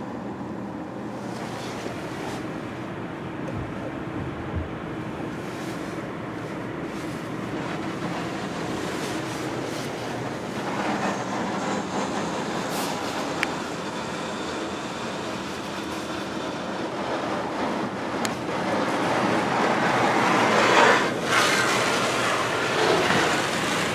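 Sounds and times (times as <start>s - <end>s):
car wash machine noise: 0.0s - 23.9s.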